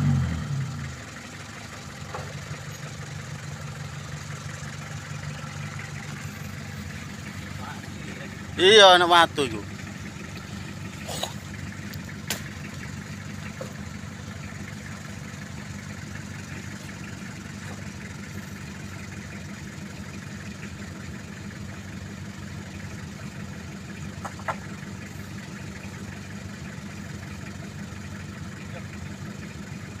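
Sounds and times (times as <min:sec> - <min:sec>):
pickup engine idling: 0:00.0 - 0:30.0.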